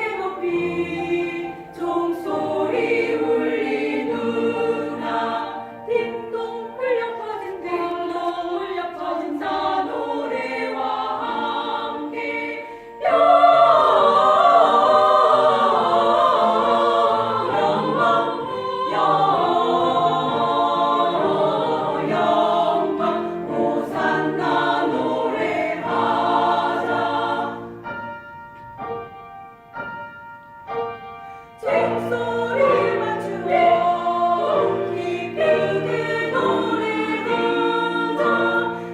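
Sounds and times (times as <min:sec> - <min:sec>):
choir singing in harmony: 0:00.0 - 0:28.4, 0:31.3 - 0:38.9.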